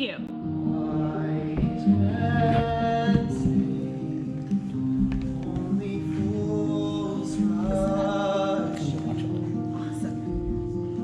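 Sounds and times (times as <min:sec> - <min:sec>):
guitar strumming: 0:00.0 - 0:11.0
musical theatre backing track: 0:00.3 - 0:11.0.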